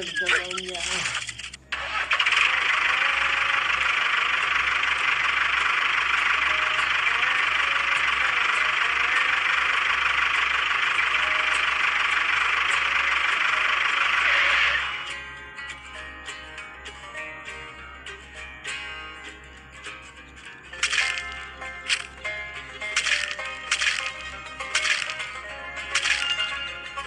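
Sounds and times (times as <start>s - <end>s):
model tractor engine running: 0.0s - 27.0s
acoustic guitar music: 4.5s - 27.0s.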